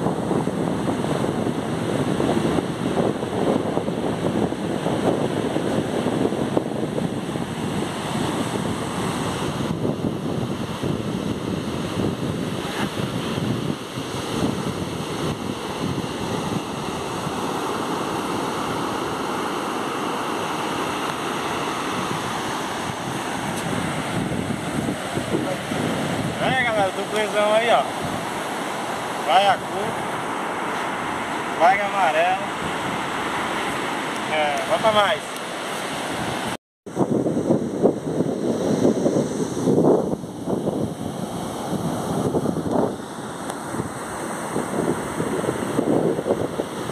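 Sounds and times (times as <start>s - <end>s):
ocean surf breaking: 0.0s - 46.9s
wind buffeting microphone: 0.0s - 46.9s.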